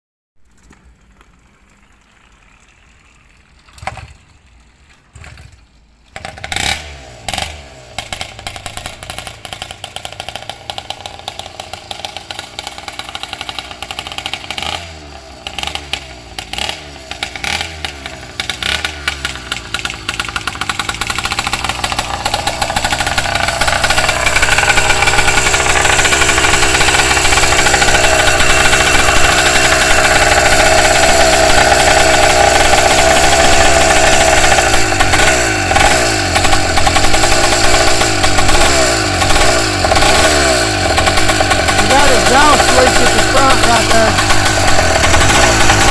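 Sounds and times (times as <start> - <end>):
engine starting and running: 0.4 - 45.9.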